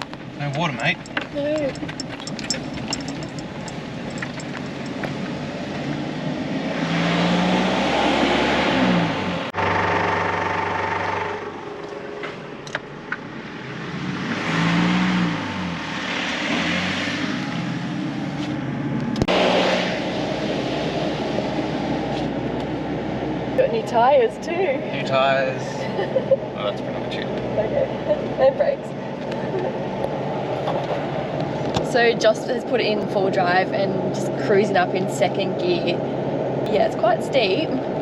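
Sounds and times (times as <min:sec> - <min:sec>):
car engine climbing in low gear: 0:00.0 - 0:38.0.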